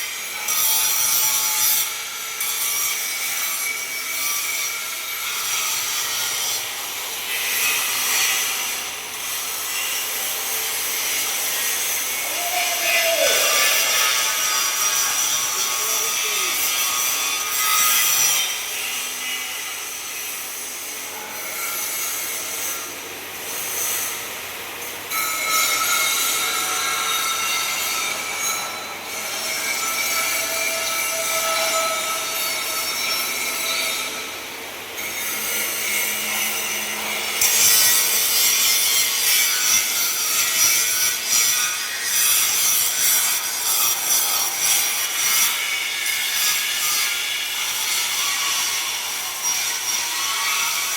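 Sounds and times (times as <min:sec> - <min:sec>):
metal being cut: 0:00.0 - 0:50.9.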